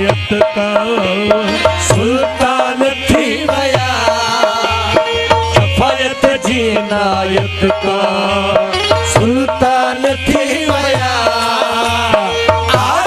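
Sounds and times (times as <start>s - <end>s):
hand drum beat: 0.0s - 13.0s
harmonium melody: 0.0s - 13.0s.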